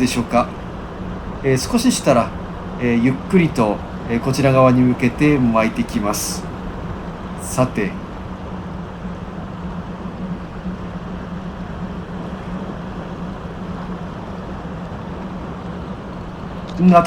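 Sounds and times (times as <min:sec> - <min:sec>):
constant low hum: 0:00.0 - 0:17.0
even rushing noise: 0:00.0 - 0:17.0.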